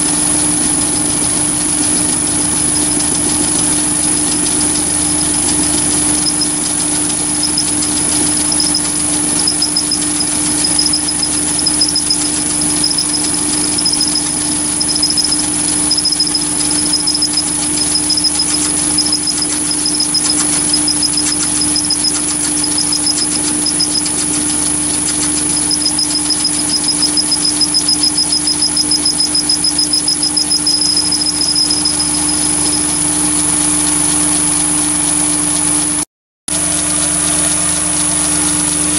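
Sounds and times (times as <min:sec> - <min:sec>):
lathe motor hum and whine: 0:00.0 - 0:38.9.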